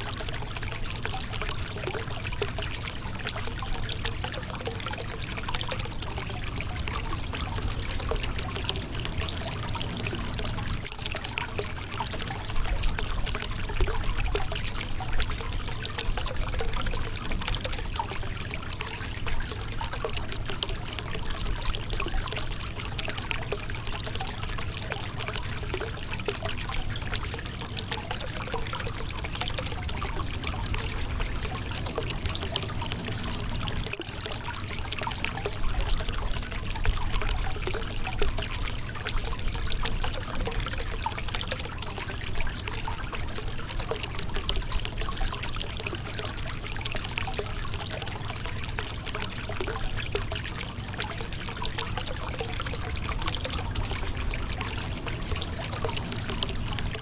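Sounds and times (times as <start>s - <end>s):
water splashing over rocks: 0.0s - 57.0s.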